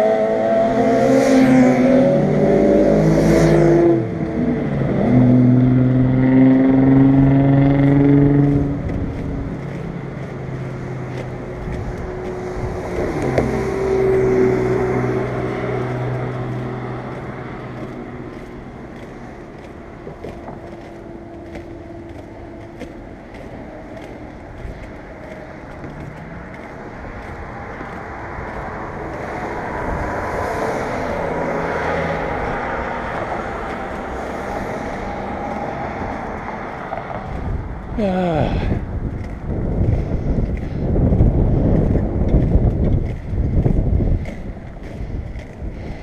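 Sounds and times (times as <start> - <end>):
road traffic passing: 0.0 - 46.0
skateboard wheels rolling on concrete: 1.7 - 46.0.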